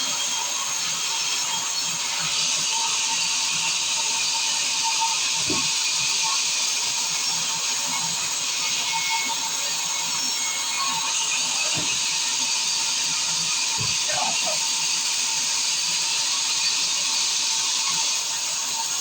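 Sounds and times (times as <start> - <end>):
sawmill machinery hiss: 0.0 - 19.0.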